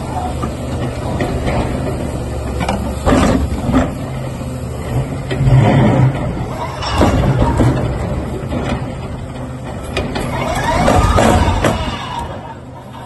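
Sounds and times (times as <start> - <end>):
excavator drone: 0.0 - 13.0.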